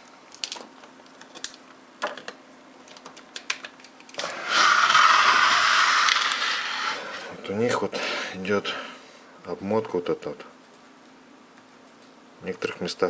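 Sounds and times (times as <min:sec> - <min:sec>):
faint transformer hum: 0:00.0 - 0:13.0.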